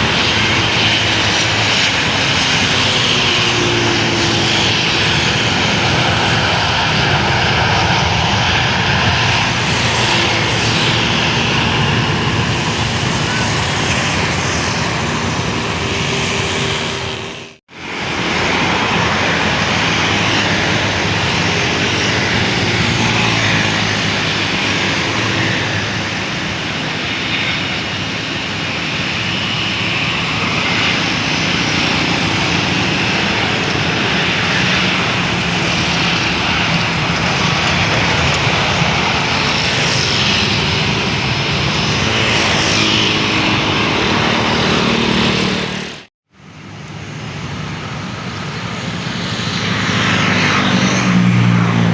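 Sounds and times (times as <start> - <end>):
airliner engines whining: 0.0 - 51.9.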